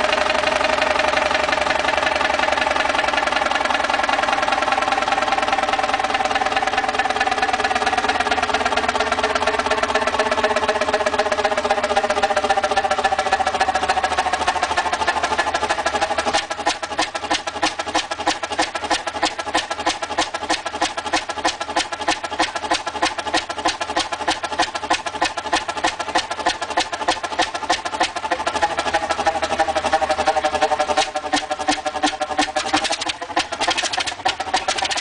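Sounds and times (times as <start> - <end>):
constant whine: 0.0 - 35.0
large engine clattering: 0.0 - 35.0.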